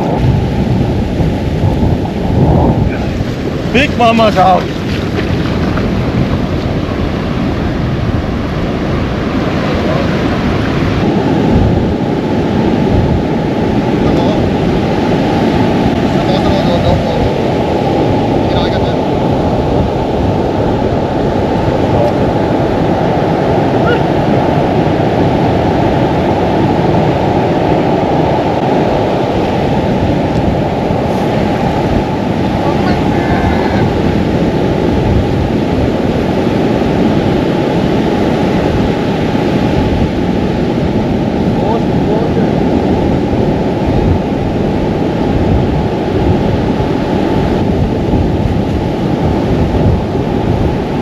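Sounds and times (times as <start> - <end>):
surf washing on shore: 0.0 - 51.0
wind buffeting microphone: 0.0 - 51.0.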